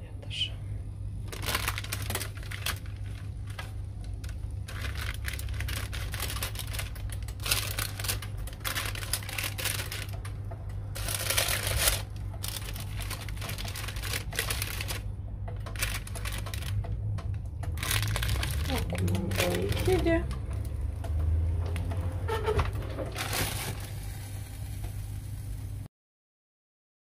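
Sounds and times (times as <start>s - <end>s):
steady low hum: 0.0s - 25.9s
baking paper crinkling: 1.2s - 16.9s, 17.7s - 24.1s.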